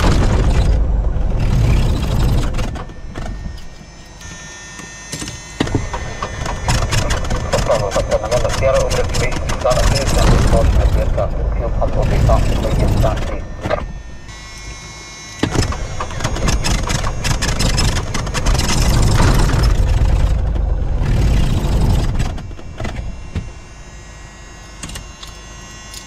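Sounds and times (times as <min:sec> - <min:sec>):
piston engine sputtering: 0:00.0 - 0:26.0.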